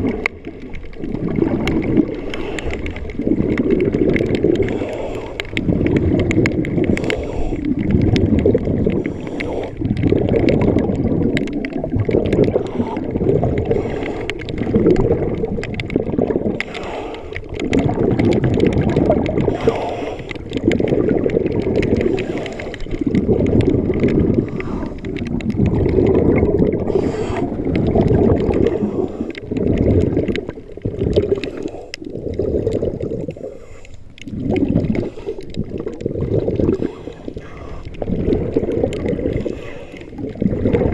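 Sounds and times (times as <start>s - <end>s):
underwater gurgling rush: 0.0s - 40.9s.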